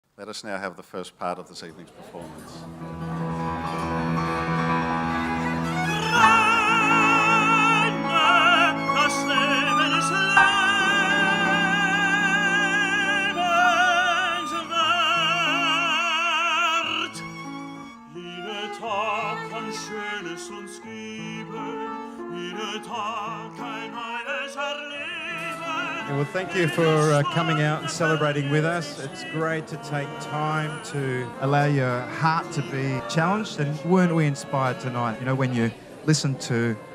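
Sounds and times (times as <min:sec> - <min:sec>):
classical instrumental accompaniment: 0:02.2 - 0:36.9
operatic singing: 0:03.8 - 0:36.9.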